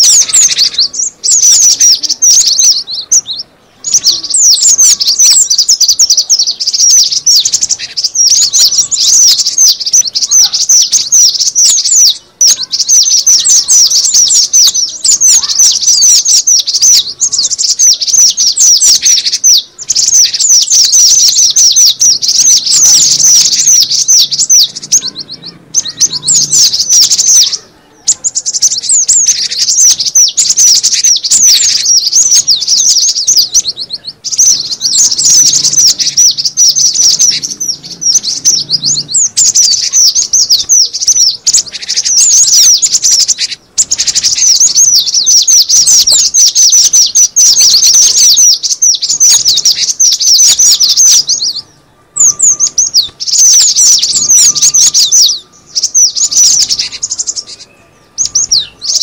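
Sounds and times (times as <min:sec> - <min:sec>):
fast high bird chirps: 0:00.0 - 0:59.0.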